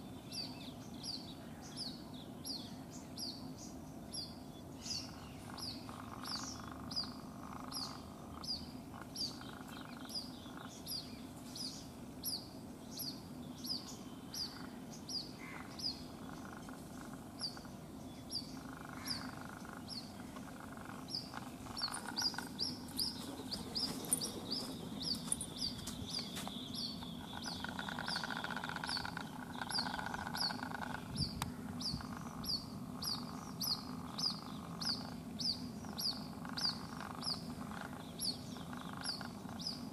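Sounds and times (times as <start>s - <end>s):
bird chick peeping: 0.3s - 39.9s.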